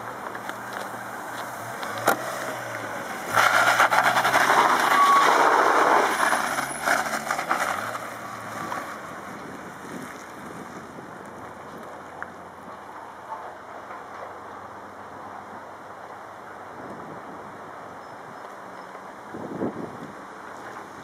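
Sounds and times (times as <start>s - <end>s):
car engine idling and revving: 0.0s - 21.0s
spinning tyres: 0.0s - 21.0s.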